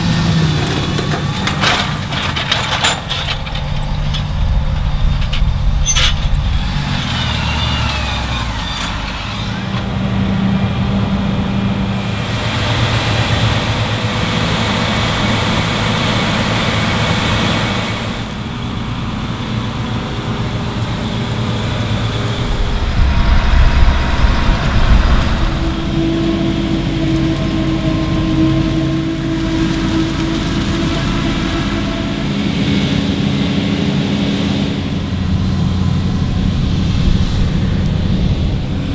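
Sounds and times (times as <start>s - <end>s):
farm machinery engines working: 0.0s - 38.9s.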